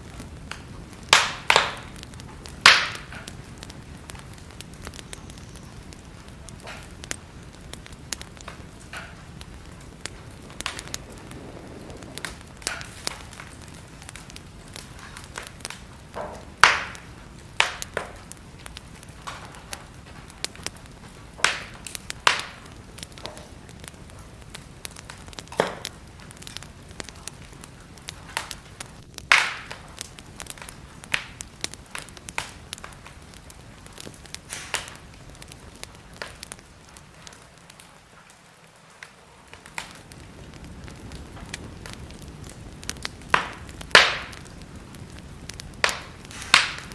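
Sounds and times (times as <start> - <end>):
steady low hiss: 0.0 - 46.9
wood fire crackling and popping: 0.0 - 46.9.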